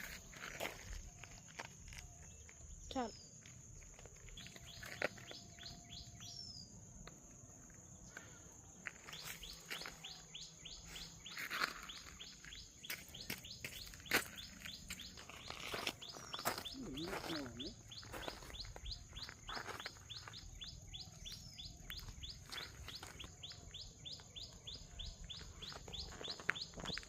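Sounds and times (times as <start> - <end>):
bird chirping: 4.1 - 27.0.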